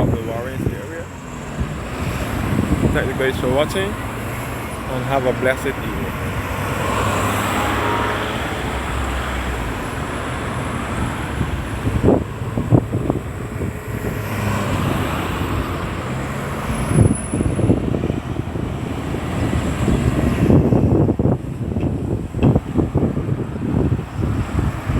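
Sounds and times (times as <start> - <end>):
cars and heavy vehicles passing: 0.0 - 24.9.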